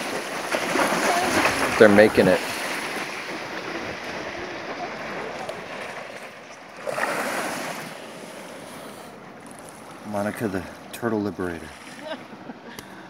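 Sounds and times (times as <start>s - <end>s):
surf washing onto beach: 0.0s - 13.0s.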